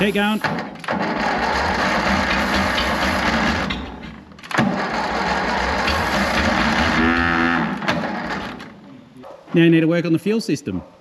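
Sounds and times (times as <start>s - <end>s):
tractor engine firing roughly: 0.0s - 8.8s.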